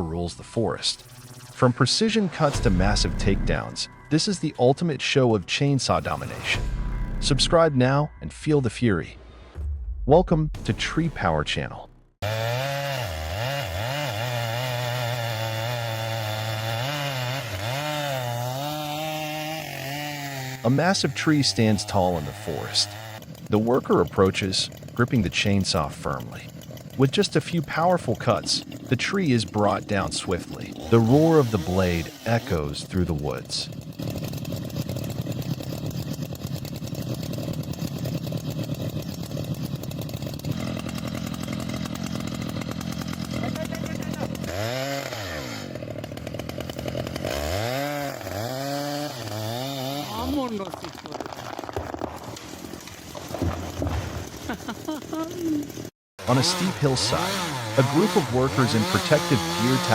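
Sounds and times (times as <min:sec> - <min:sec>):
chainsaw engine at high revs: 0:02.4 - 0:03.9, 0:12.2 - 0:59.9.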